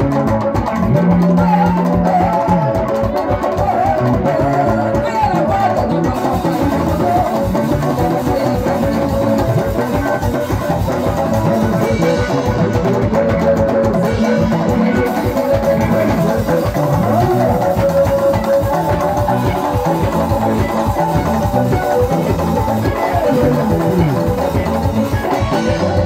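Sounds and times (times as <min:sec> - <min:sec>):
drum kit: 0:00.0 - 0:26.0
hand drums: 0:00.0 - 0:26.0
plucked guitar: 0:00.0 - 0:26.0.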